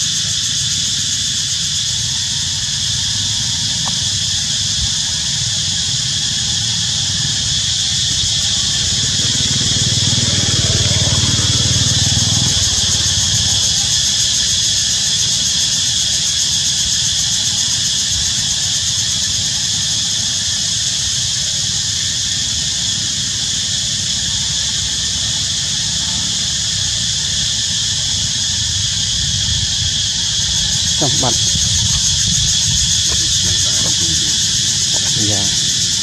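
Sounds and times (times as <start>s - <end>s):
cicada chorus drone: 0.0s - 36.0s.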